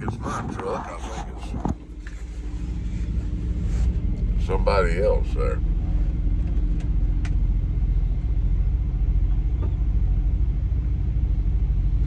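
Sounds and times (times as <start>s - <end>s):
constant hum: 0.0s - 12.0s
truck engine idling: 0.0s - 12.0s.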